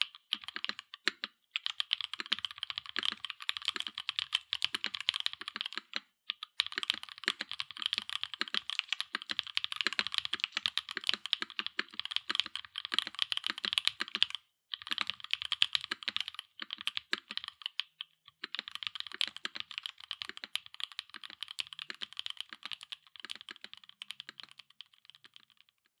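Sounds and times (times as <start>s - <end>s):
mechanical keyboard typing: 0.0s - 25.8s.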